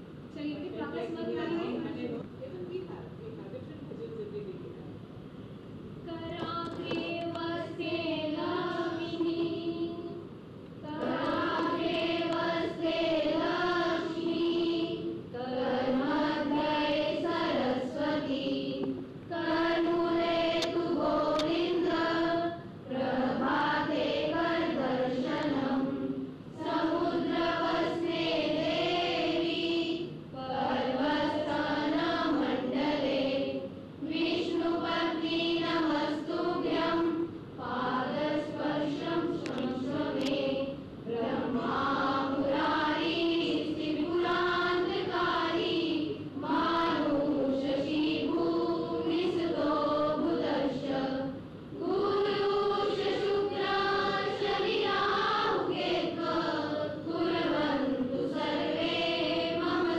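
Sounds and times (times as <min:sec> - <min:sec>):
children singing in unison: 0:10.8 - 0:59.9.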